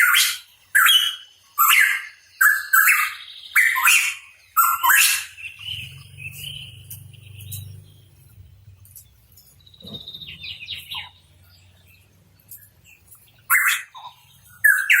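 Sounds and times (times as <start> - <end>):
bird calling: 0.0 - 8.0, 9.6 - 11.4, 12.5 - 15.0.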